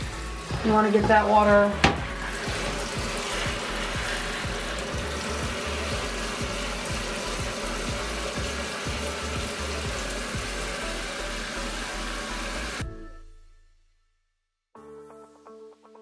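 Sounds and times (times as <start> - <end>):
water spraying into plastic tub: 0.0 - 12.8.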